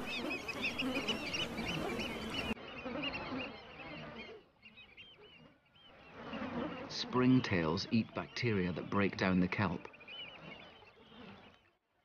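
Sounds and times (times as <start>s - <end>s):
shorebirds calling: 0.0s - 11.8s.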